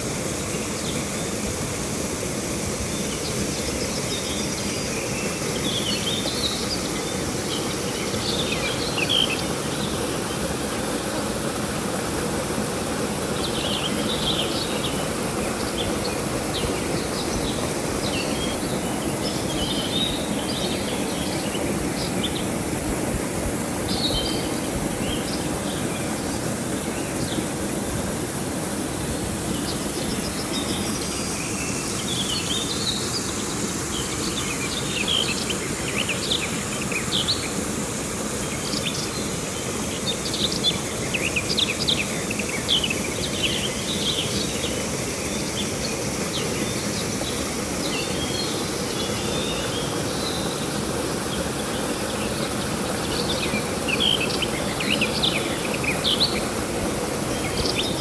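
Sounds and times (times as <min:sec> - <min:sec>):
river water running: 0:00.0 - 0:58.0.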